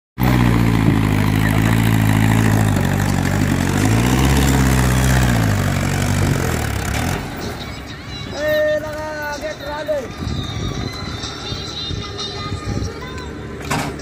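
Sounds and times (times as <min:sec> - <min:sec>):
tractor diesel engine under load: 0:00.2 - 0:14.0.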